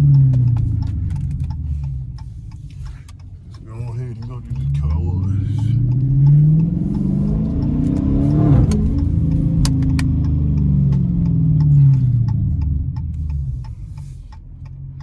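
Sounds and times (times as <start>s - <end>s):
car exhaust accelerating: 0.0s - 15.0s
exhaust pops: 0.0s - 15.0s.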